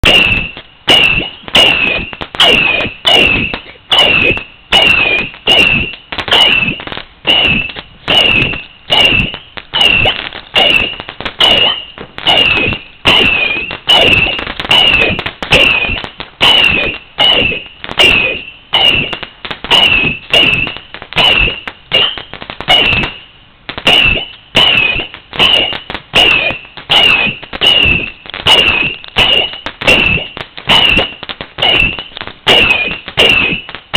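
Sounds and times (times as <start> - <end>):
firework bangs with whistles: 0.0 - 33.9.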